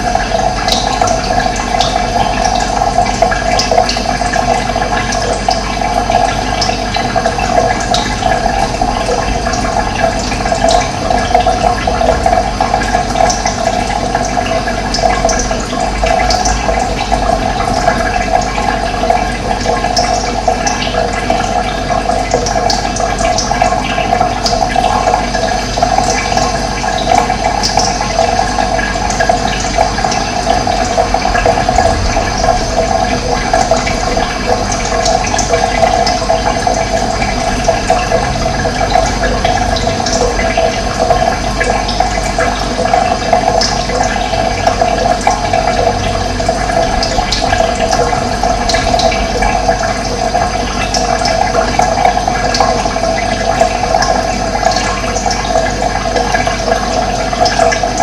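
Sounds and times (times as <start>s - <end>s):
running water flowing: 0.0s - 58.0s.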